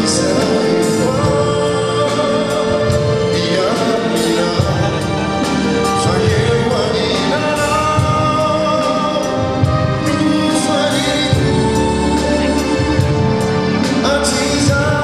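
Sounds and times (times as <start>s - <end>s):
band playing: 0.0s - 15.0s
choir singing: 0.0s - 15.0s
man singing lead: 0.0s - 15.0s.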